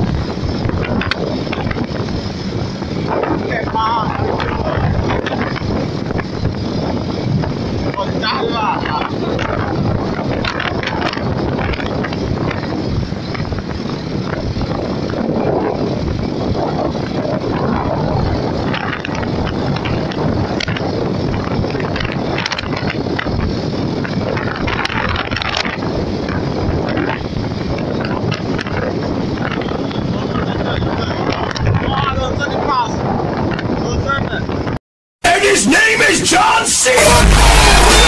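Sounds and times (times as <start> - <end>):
wind buffeting microphone: 0.0 - 34.8
tyre and road noise: 0.0 - 38.0.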